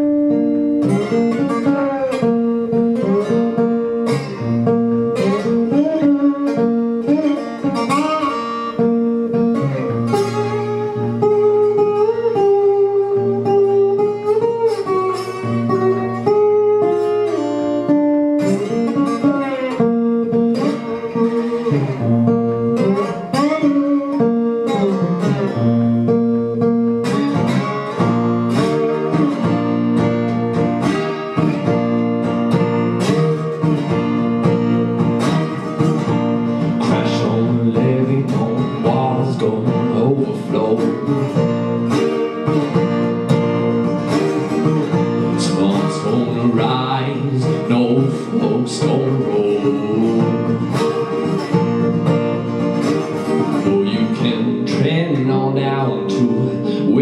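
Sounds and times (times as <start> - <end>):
acoustic guitar blues: 0.0 - 57.0.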